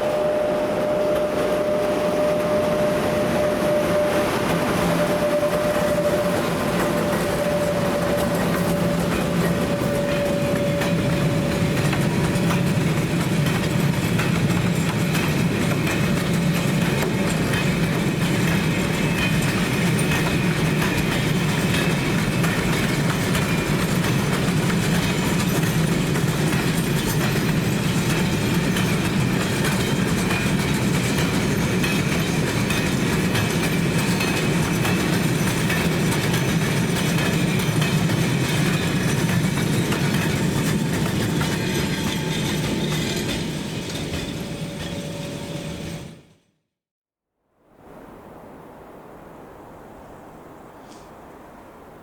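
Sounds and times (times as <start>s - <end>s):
train rumbling past: 0.0s - 46.5s
wheel clatter over rail joints: 0.9s - 46.3s.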